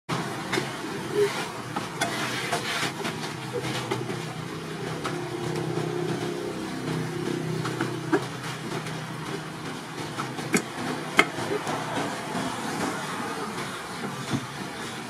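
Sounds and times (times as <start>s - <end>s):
engine humming: 0.1s - 15.0s.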